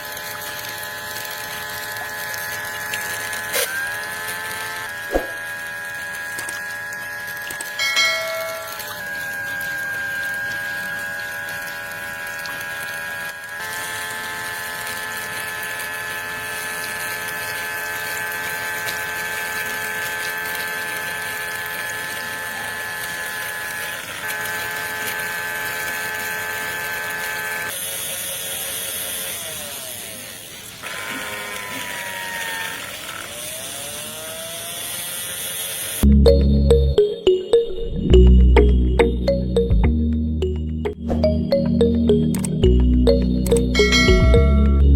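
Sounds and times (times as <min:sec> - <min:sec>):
small electric motor whining: 0:00.0 - 0:36.1.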